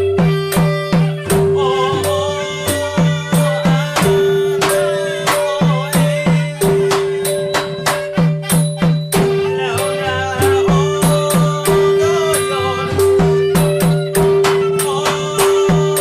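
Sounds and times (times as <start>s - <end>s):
drum and cymbal strikes: 0.0s - 16.0s
steady held tone: 0.0s - 16.0s
wavering melody: 0.0s - 16.0s.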